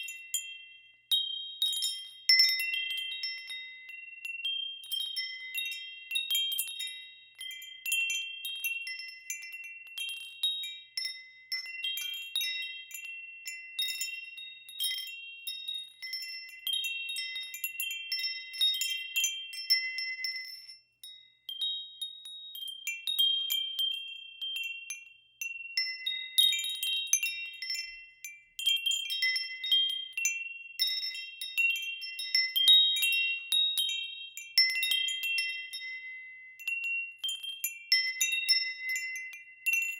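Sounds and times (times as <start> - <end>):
wind chimes ringing: 0.0 - 39.9.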